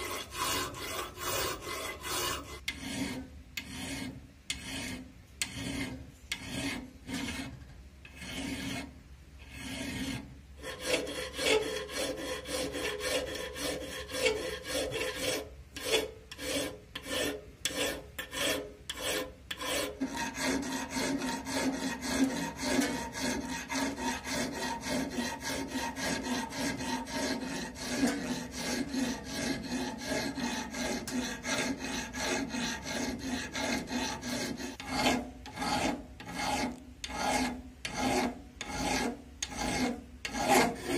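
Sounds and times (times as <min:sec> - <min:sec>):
file rasping on steel: 0:00.0 - 0:40.9.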